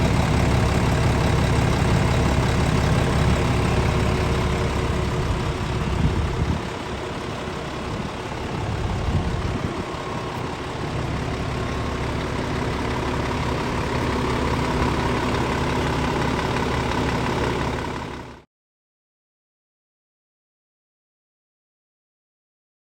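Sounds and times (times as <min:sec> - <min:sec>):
diesel truck engine idling: 0:00.0 - 0:18.4.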